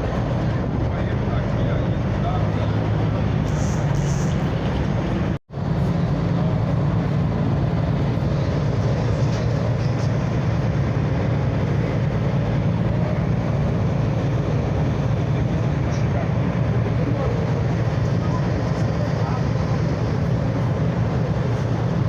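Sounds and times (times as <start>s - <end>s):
low engine drone: 0.0s - 22.0s
water noise: 0.0s - 22.0s
wind: 0.0s - 22.0s.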